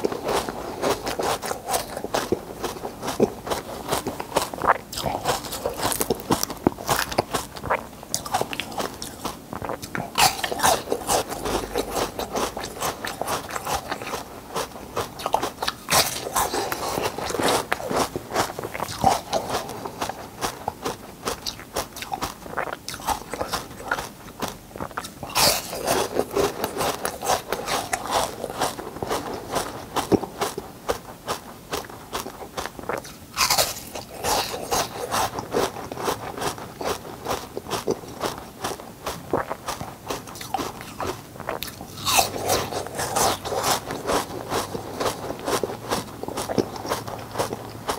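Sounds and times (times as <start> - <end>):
ice crunching between teeth: 0.0 - 47.9.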